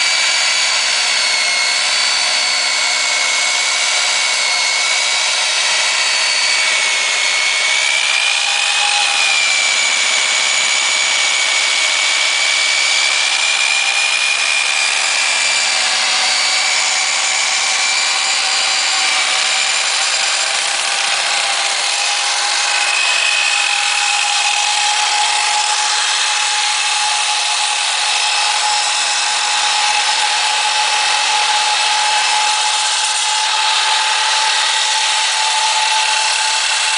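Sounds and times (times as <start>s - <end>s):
core drill cutting concrete: 0.0s - 36.9s.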